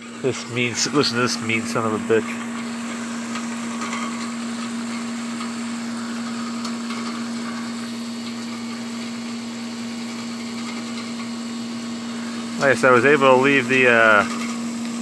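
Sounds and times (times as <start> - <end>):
window air conditioner humming: 0.0 - 15.0.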